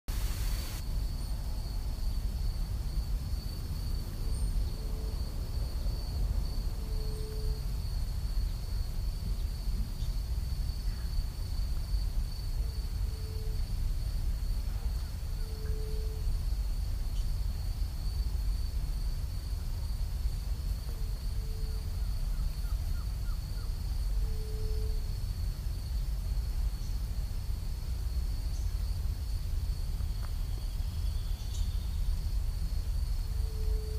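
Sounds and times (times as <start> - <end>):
low wind-like rumble: 0.1 - 33.9
high-pitched insect trill: 0.3 - 33.9.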